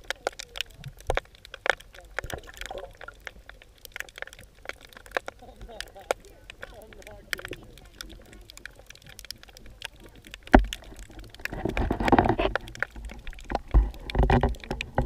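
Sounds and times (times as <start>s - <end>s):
gurgling rumble of moving water: 0.0s - 15.0s
small underwater clicks: 0.0s - 15.0s.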